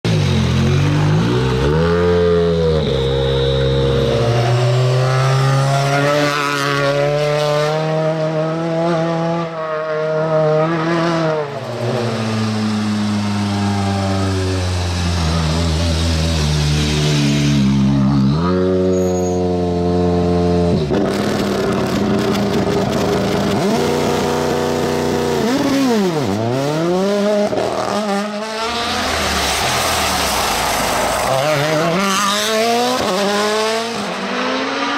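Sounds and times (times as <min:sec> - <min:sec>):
rally car engine at full throttle: 0:00.0 - 0:34.9.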